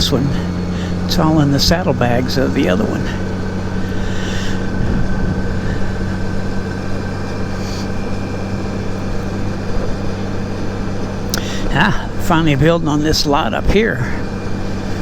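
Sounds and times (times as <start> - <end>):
motorcycle engine humming: 0.0 - 15.0
road and wind noise: 0.0 - 15.0.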